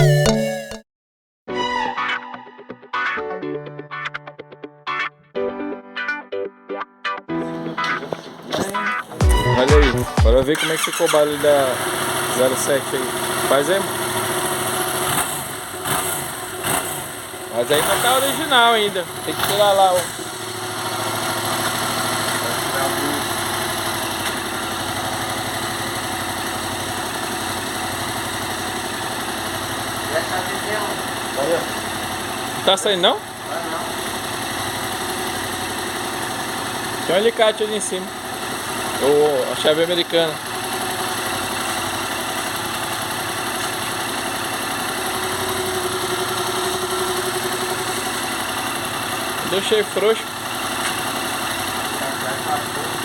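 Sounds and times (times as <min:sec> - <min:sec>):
motorcycle engine idling: 0:08.6 - 0:53.0.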